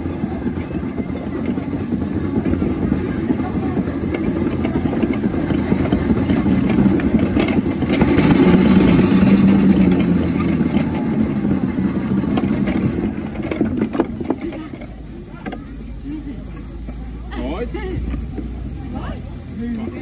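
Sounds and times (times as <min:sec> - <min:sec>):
miniature steam engine running: 0:00.0 - 0:20.0
steam hiss: 0:00.0 - 0:20.0.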